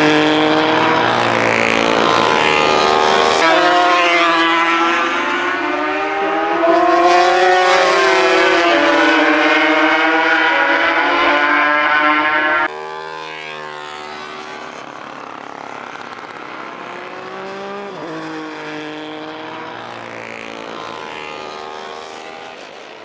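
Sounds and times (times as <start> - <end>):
racing motorcycle engine: 0.0 - 23.0.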